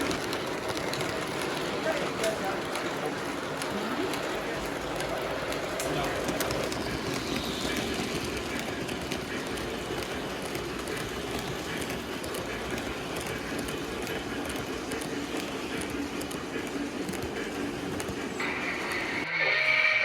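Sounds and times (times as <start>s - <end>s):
wheels clicking over rails: 0.0s - 19.3s
model train rolling rumble: 0.0s - 19.7s.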